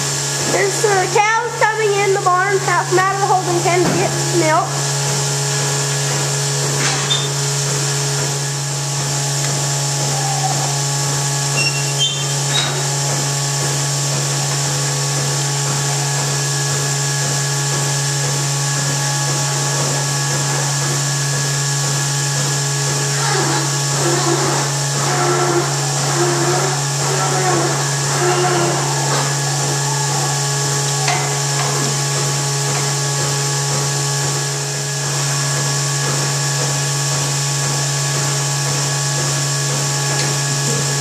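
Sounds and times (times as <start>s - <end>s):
milking machine drone: 0.0s - 41.0s.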